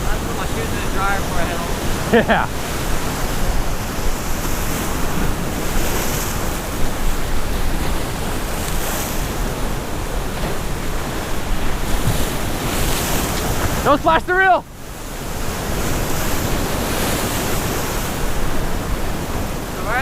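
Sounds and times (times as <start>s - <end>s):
surf breaking against rocks: 0.0s - 20.0s
wind on microphone: 0.0s - 20.0s.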